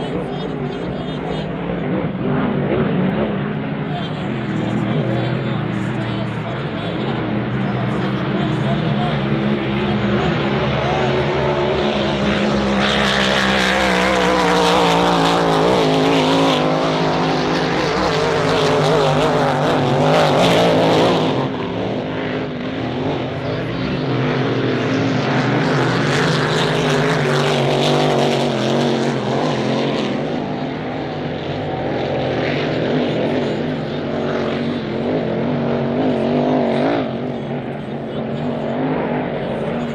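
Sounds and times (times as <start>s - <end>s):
racing boat engine drone: 0.0s - 39.9s.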